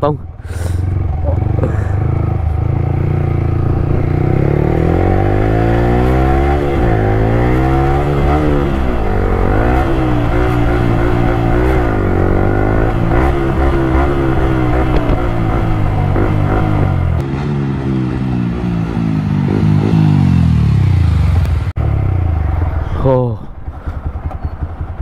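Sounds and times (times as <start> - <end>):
loud motorcycle engine revving: 0.6 - 22.7.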